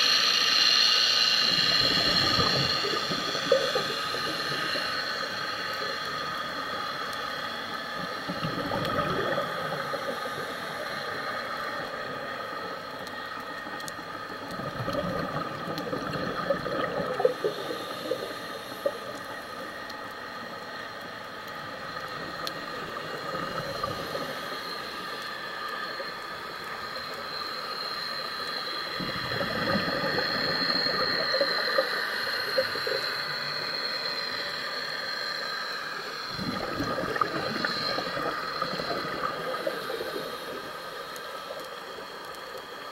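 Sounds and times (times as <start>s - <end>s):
steady underwater hum: 0.0s - 42.9s
regulator bubbles gurgling: 1.3s - 34.2s, 35.8s - 42.9s.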